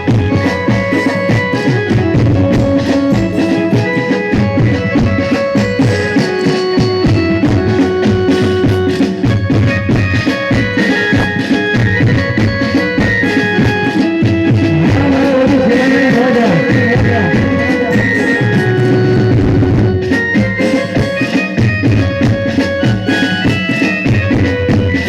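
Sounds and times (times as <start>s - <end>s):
sustained instrument melody: 0.0s - 22.8s
steady drum beat: 0.0s - 25.0s.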